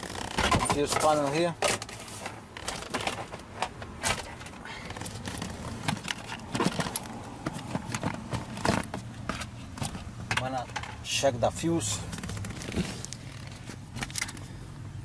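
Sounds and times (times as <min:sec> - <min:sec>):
hands handling fuse panel parts: 0:00.4 - 0:11.2, 0:12.0 - 0:14.6.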